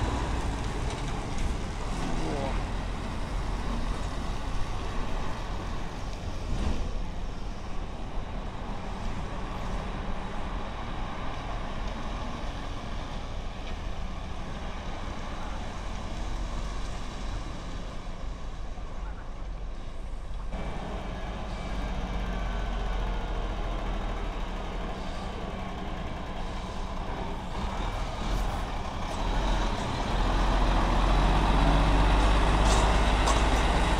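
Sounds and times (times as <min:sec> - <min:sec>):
truck diesel engine rumbling: 0:00.0 - 0:33.9.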